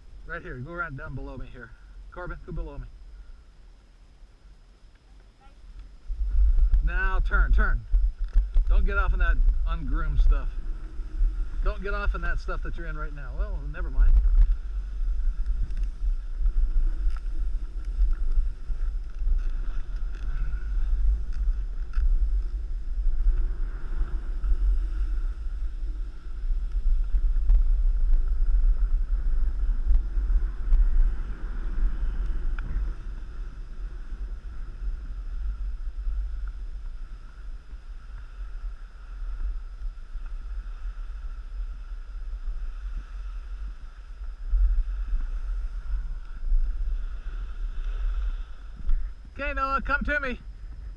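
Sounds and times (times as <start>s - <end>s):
wind buffeting microphone: 5.5s - 50.9s
skis sliding on snow: 6.1s - 50.9s.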